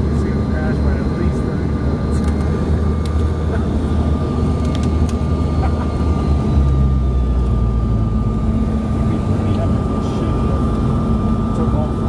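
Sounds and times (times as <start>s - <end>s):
jet engine cabin rumble and whine: 0.0s - 12.0s.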